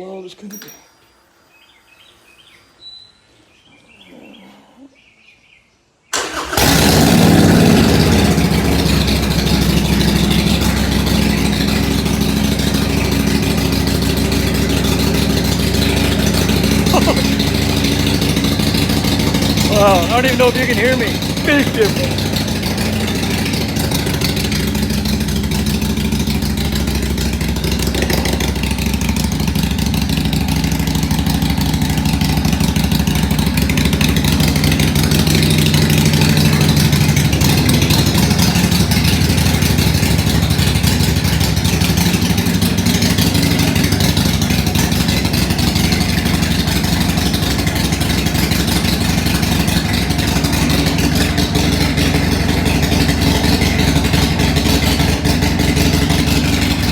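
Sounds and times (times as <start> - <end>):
motorcycle engine idling: 6.2 - 56.9.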